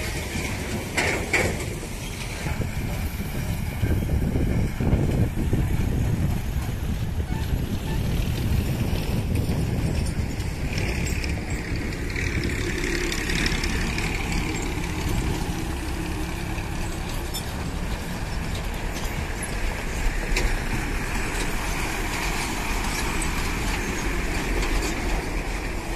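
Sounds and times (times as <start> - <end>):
diesel lorries driving past: 0.0 - 25.9
tyre and road noise: 0.0 - 25.9.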